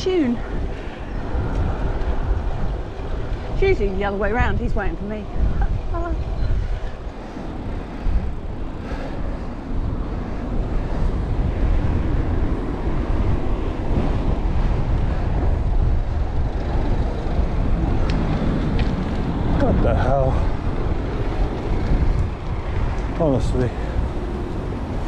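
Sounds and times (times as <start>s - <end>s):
bicycle road noise: 0.0s - 25.0s
wind rumble on microphone: 0.0s - 25.0s.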